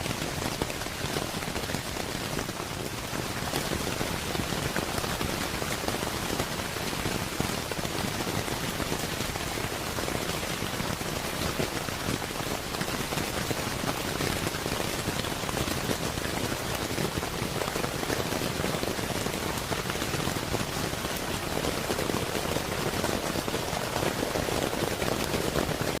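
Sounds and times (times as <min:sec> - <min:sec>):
rain on a roof: 0:00.0 - 0:26.0.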